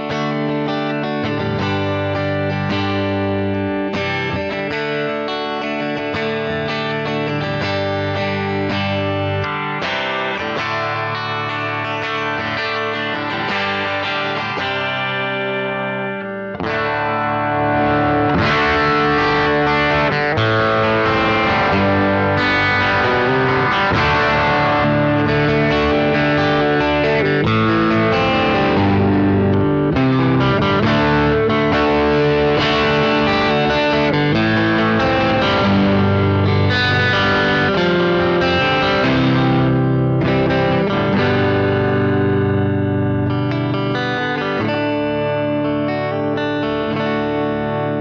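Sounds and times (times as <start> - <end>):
electric guitar chords and riffs: 0.0 - 48.0.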